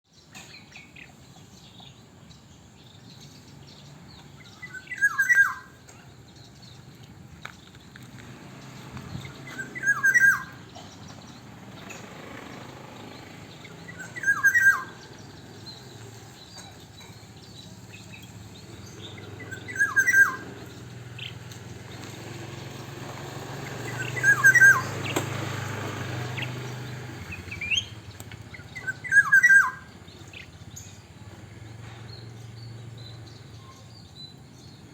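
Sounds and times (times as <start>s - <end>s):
bird calling: 3.2s - 6.8s, 8.6s - 34.9s.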